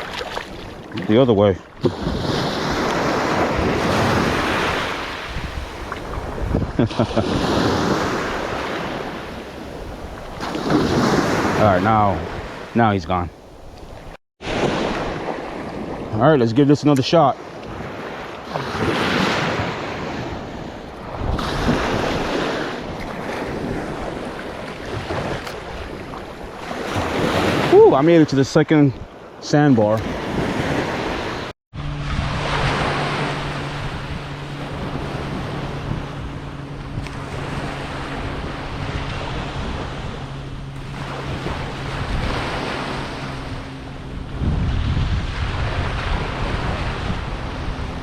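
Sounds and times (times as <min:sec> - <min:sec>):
wind buffeting microphone: 0:00.0 - 0:16.6, 0:17.4 - 0:29.2, 0:29.9 - 0:48.0
ocean surf washing in: 0:00.0 - 0:48.0.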